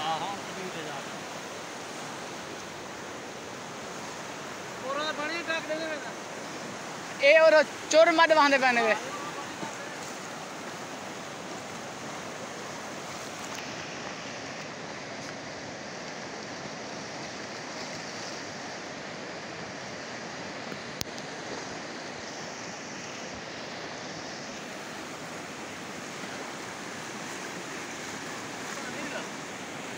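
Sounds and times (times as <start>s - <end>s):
flood water rushing: 0.0s - 29.9s.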